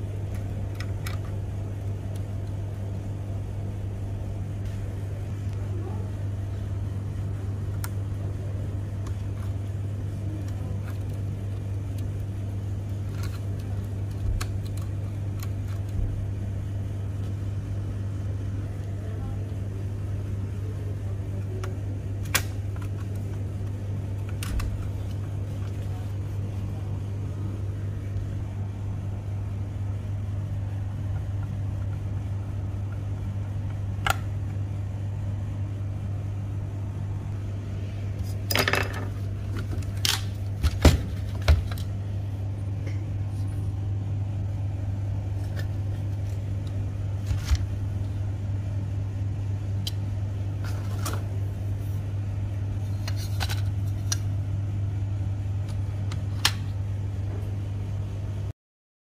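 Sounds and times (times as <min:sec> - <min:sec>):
steady low hum: 0:00.0 - 0:58.5.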